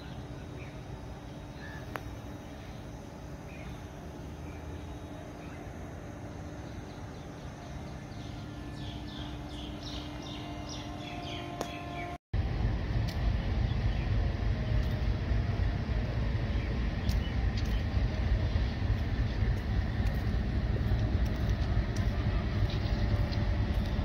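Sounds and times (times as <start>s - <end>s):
steady low hum: 0.0s - 24.0s
steady low rumble: 0.0s - 24.0s.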